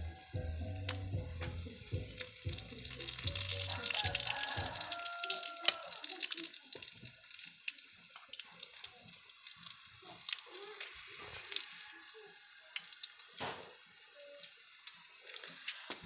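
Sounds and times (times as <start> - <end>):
food frying in hot oil: 0.0 - 16.0
oil crackling: 0.0 - 16.0.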